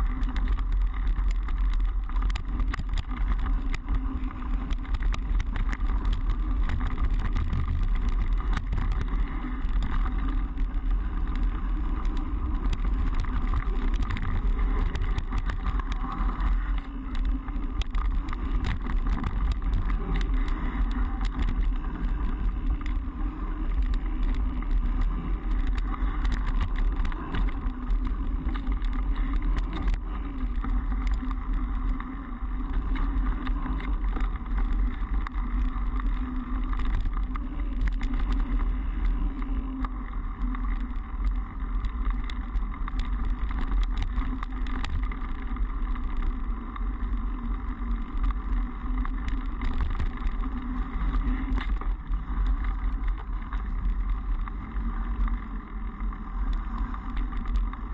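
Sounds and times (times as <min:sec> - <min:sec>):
bike clicks and rattles: 0:00.0 - 0:57.9
bike tyre noise: 0:00.0 - 0:57.9
wind rumble on microphone: 0:00.0 - 0:57.9.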